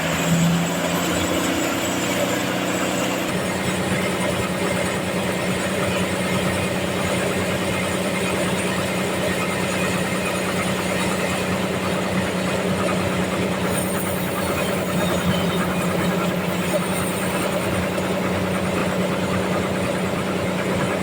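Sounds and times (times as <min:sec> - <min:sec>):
sawmill machinery droning: 0:00.0 - 0:21.0.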